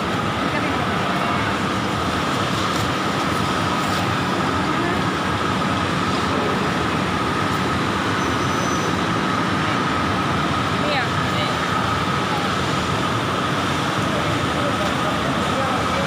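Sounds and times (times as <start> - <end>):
constant high whine: 0.0 - 16.0
machinery noise: 0.0 - 16.0.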